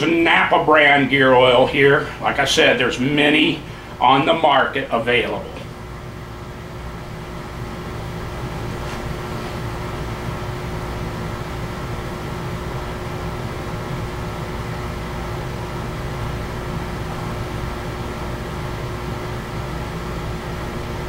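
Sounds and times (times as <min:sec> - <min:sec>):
machine hum with airy noise: 0:00.0 - 0:21.0.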